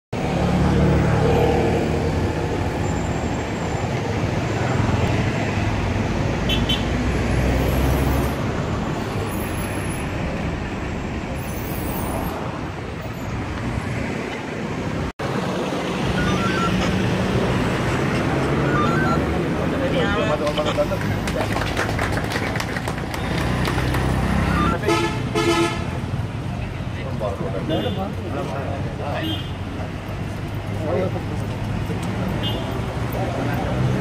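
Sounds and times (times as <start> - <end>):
vehicles passing: 0.2 - 34.0.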